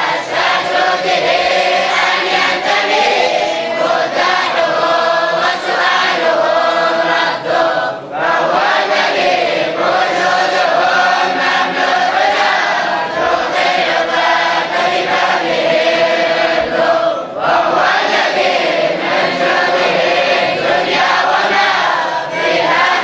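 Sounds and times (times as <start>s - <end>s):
boys and men chanting in unison: 0.0s - 23.0s.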